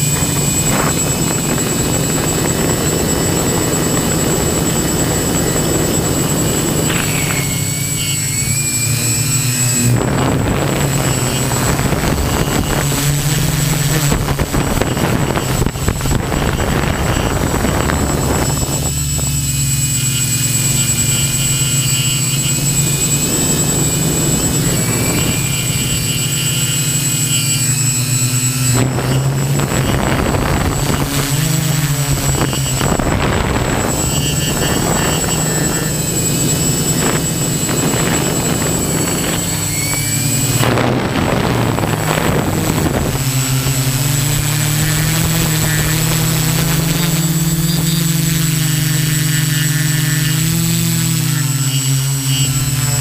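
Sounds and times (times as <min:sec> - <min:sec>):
drone propellers buzzing: 0:00.0 - 0:53.0.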